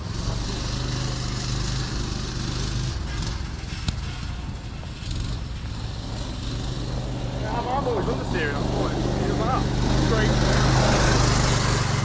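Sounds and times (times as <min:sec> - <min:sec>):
buggy engine running: 0:00.0 - 0:12.0.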